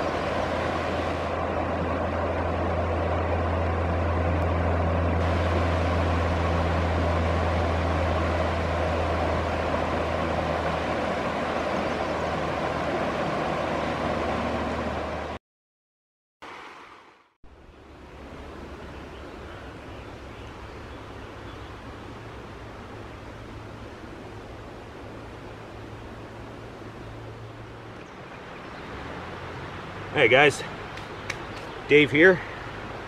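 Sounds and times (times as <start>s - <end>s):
river water rushing over rapids: 0.0s - 15.4s, 17.9s - 33.0s.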